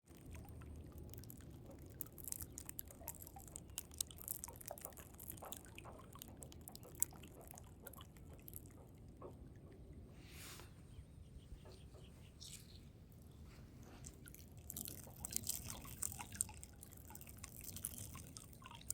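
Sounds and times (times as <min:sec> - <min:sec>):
water trickling and dripping: 0:00.1 - 0:10.2, 0:11.6 - 0:18.9.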